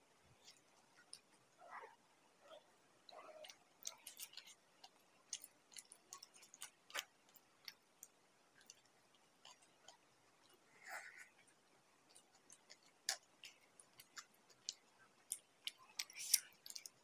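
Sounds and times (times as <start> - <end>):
faint chewing: 0.2 - 17.0.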